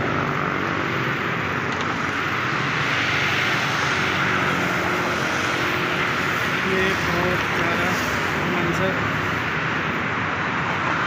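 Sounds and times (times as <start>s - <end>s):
busy road traffic: 0.0s - 11.0s
motorcycles passing: 0.0s - 11.0s.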